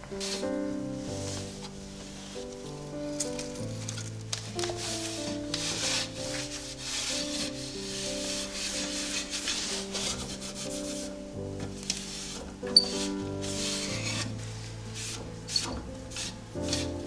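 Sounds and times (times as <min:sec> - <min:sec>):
background music with held notes: 0:00.0 - 0:17.0
cloth wiping a surface: 0:00.0 - 0:17.0.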